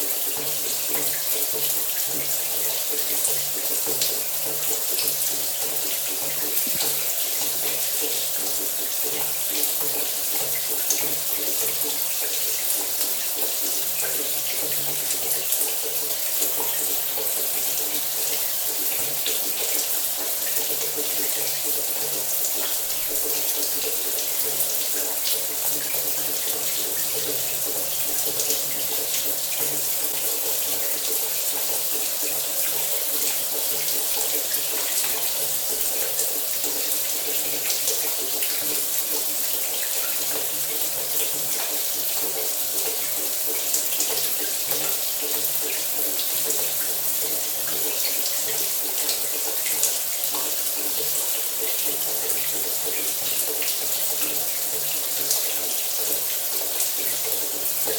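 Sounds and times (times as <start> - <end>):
shower water running: 0.0 - 57.9.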